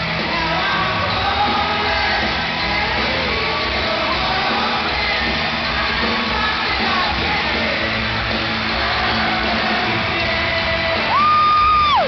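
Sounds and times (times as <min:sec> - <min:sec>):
live pop band over sound system: 0:00.0 - 0:12.0.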